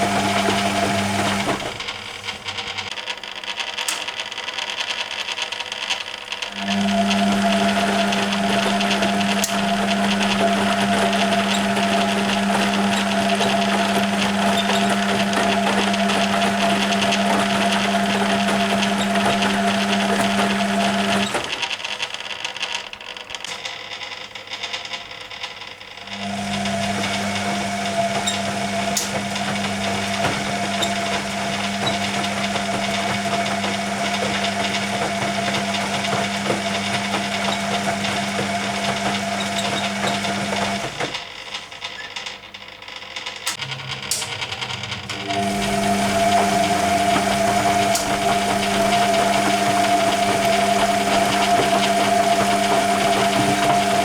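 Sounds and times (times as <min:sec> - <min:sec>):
washing machine motor humming: 0:00.0 - 0:03.1, 0:06.0 - 0:21.9, 0:26.0 - 0:42.0, 0:43.4 - 0:54.0.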